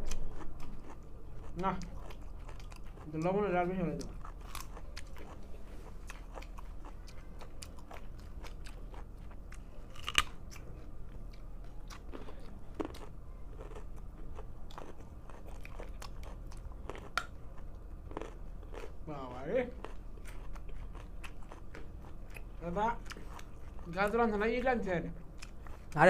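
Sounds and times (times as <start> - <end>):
carrots crunching being chewed: 0.0 - 26.0.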